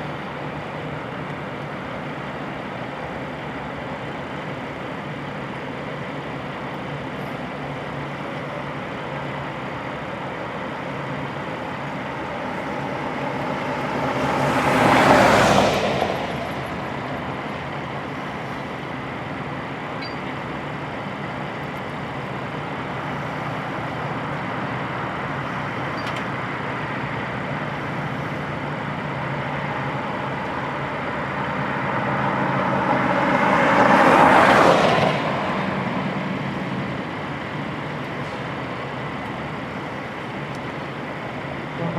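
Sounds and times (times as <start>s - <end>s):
steady engine hum: 0.0s - 41.9s
vehicles passing by: 0.0s - 41.9s.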